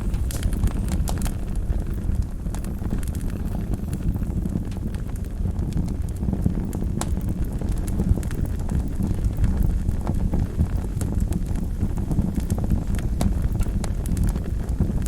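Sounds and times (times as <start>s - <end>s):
wood fire rumbling and crackling: 0.0s - 15.0s.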